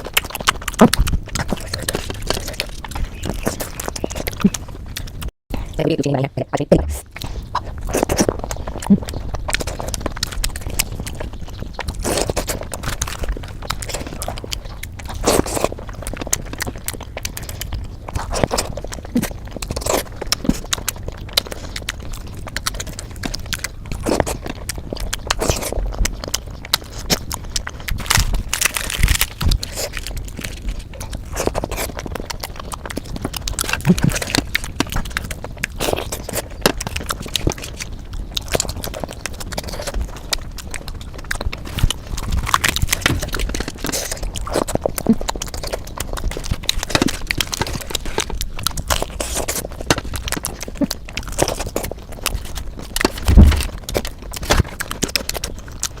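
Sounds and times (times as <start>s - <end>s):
person chewing food: 0.0s - 5.8s, 6.8s - 56.0s.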